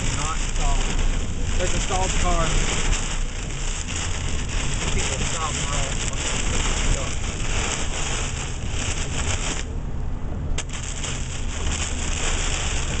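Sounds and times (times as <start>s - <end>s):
heavy rain hitting a car: 0.0s - 13.0s
vehicle rumbling on road: 0.0s - 13.0s.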